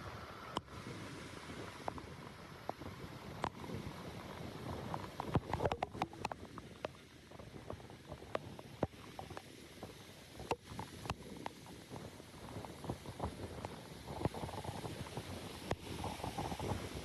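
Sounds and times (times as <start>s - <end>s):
rain taps and splashes: 0.0s - 17.0s
rumble of floodwater: 0.0s - 17.0s.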